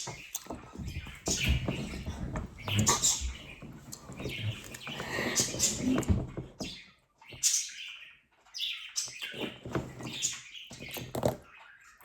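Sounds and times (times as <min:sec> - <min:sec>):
plastic toys rustling and clicking: 0:00.0 - 0:07.7, 0:09.0 - 0:11.6.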